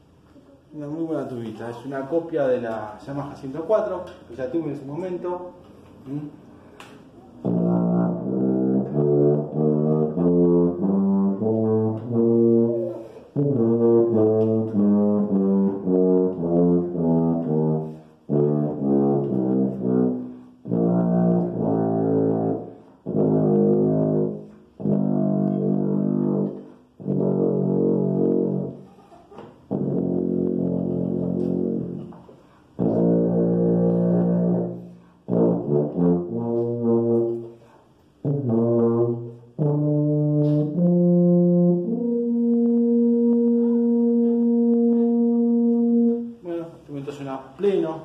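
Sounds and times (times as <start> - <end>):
tuba playing scales: 7.2 - 28.9, 29.6 - 46.5.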